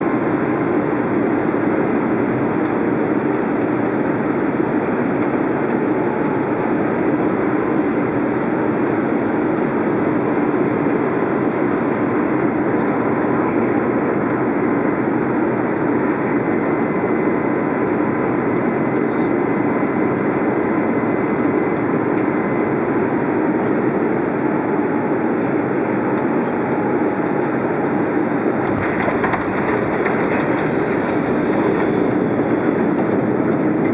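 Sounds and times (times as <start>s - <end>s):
aircraft cabin roar: 0.0s - 33.9s.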